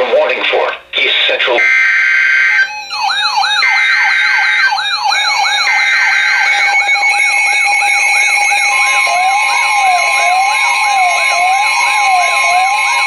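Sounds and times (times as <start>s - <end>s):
siren sweeping up and down: 1.6s - 13.0s.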